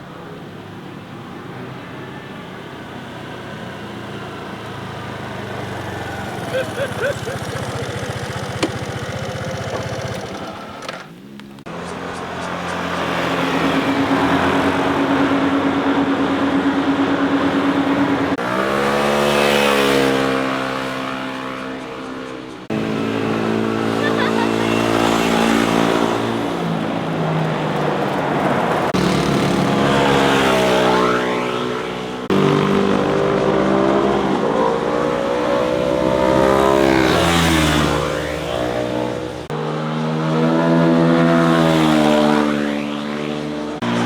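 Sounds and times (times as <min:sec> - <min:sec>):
motorcycles passing: 0:00.0 - 0:44.0.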